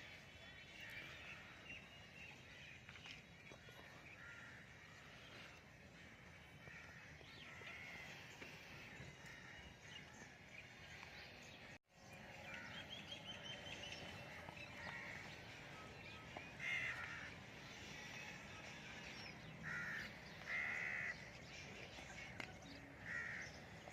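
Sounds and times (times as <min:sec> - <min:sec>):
birds chirping and calling: 0:00.4 - 0:23.9.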